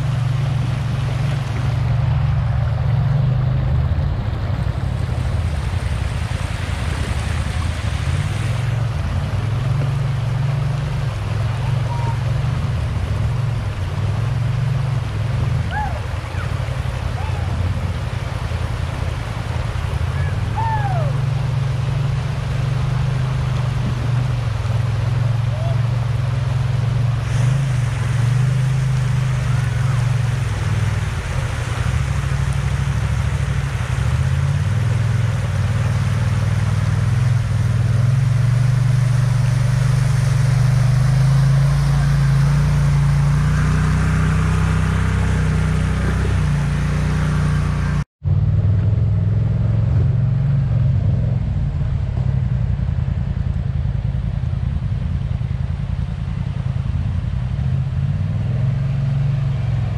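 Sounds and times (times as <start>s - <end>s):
rushing river water: 0.0s - 59.9s
vehicle engine running: 0.0s - 59.9s.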